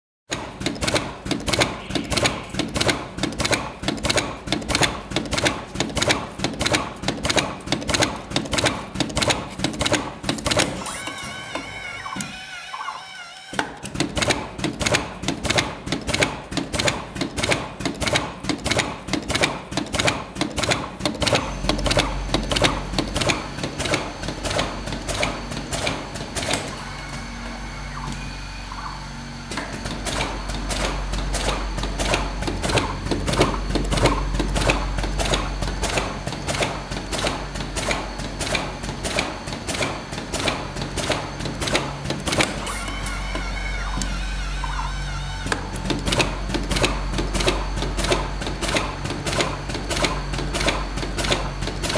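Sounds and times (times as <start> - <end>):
machine clicking: 0.3 - 11.2, 13.5 - 26.8, 29.5 - 43.2, 45.5 - 51.9.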